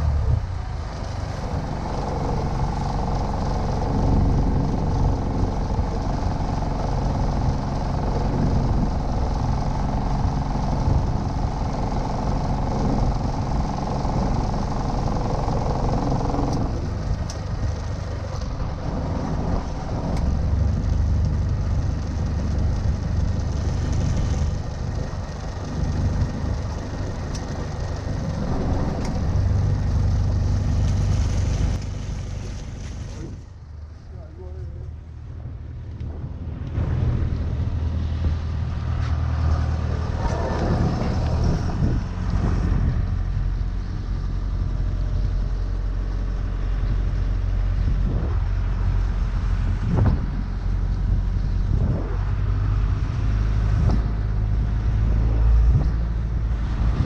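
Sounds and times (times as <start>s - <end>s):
motorboat engine rumbling: 0.0s - 57.0s.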